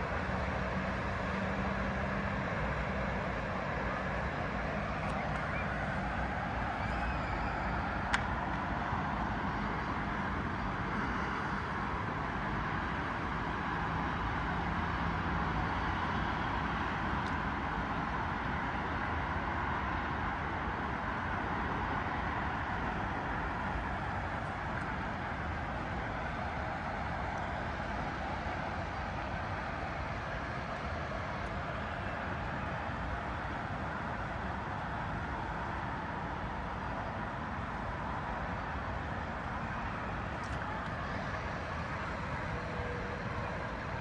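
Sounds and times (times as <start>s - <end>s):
distant city road traffic: 0.0s - 44.0s.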